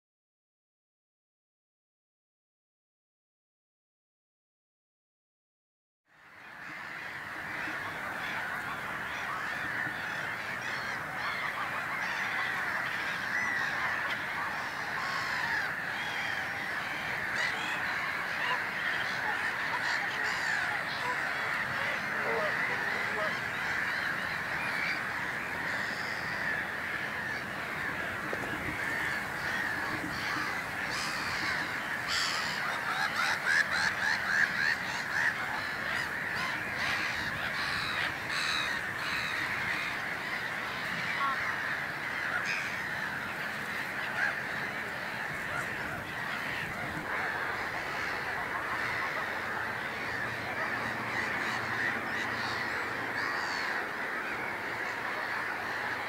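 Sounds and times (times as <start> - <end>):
harsh cawing and honking: 6.2 - 56.0
waterbirds calling: 6.2 - 56.0.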